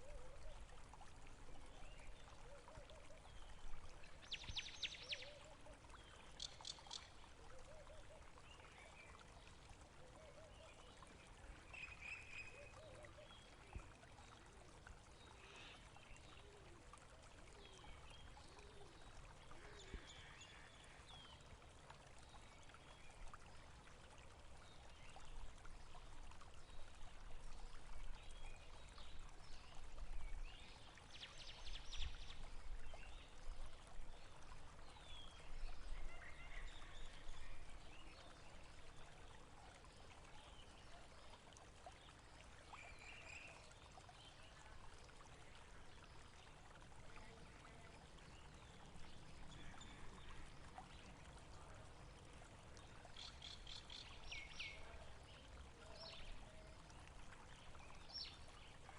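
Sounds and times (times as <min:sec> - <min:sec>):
stream trickling: 0:00.0 - 0:58.9.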